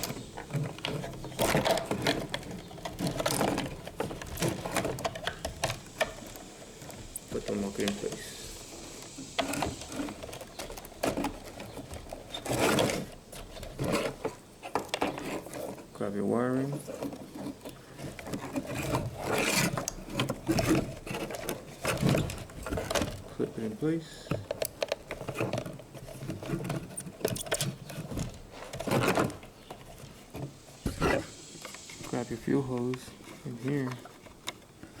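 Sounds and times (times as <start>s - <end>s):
fuel pump parts clicking and rattling: 0.0s - 35.0s.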